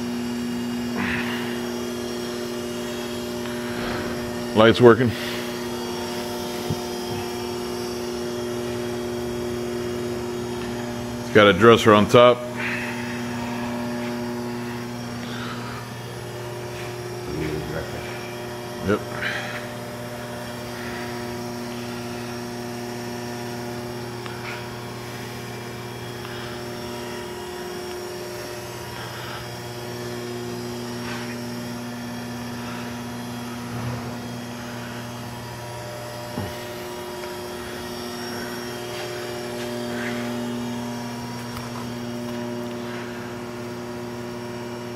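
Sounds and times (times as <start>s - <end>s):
grinder motor humming: 0.0s - 44.9s.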